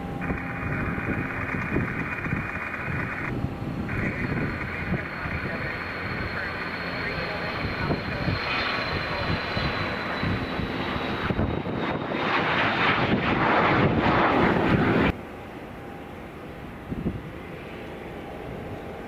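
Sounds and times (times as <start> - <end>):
jet approaching: 0.0 - 19.0
jet engines at takeoff whining: 0.0 - 19.0.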